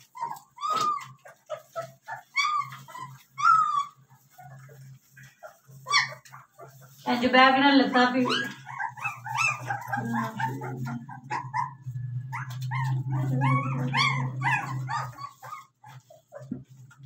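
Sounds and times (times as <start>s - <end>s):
puppies whining and yipping: 0.0s - 7.2s, 7.9s - 17.0s.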